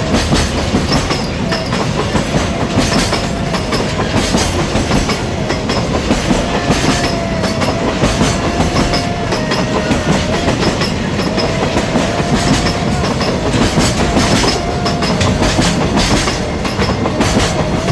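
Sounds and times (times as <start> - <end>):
freight train wagons rolling past: 0.0 - 17.9
steel wheels clacking on rail joints: 0.0 - 17.9.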